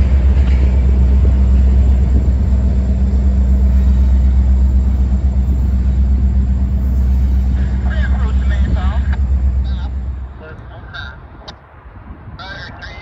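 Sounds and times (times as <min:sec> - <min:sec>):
constant hum: 0:00.0 - 0:13.0
diesel locomotive engine rumble: 0:00.0 - 0:13.0.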